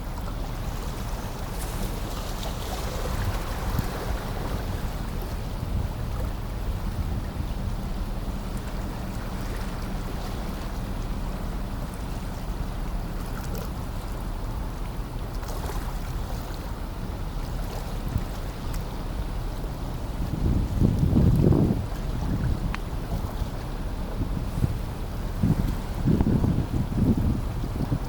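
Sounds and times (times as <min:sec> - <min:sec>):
wind buffeting microphone: 0:00.0 - 0:13.0, 0:16.3 - 0:28.0
low rumble of ship engines: 0:00.0 - 0:28.0.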